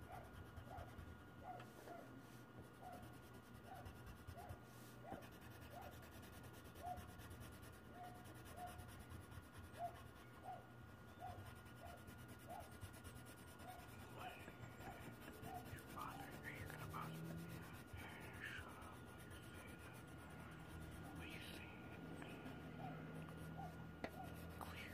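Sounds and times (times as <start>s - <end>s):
colored pencil scratching on paper: 0.0s - 24.9s
low steady hum: 0.0s - 24.9s.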